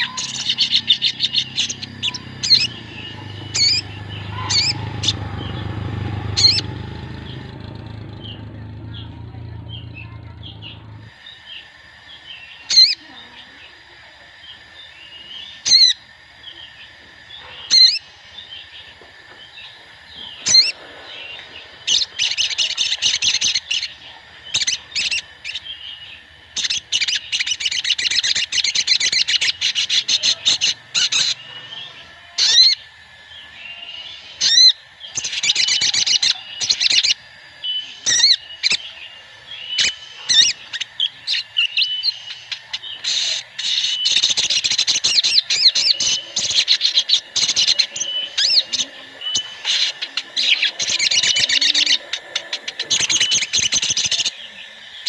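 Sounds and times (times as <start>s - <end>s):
sunbirds chirping and trilling: 0.0s - 55.0s.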